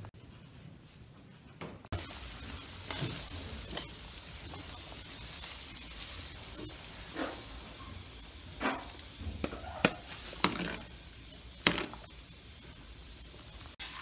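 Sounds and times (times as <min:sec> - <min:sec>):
food sizzling in pan: 0:01.9 - 0:14.0.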